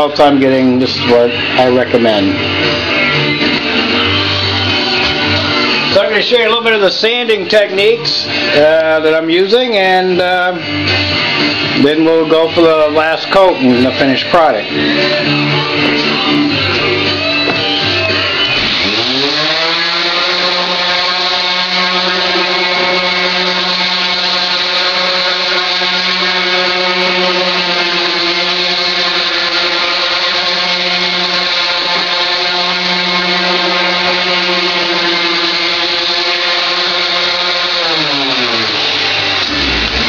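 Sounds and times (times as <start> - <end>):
palm sander whining: 0.0 - 40.0.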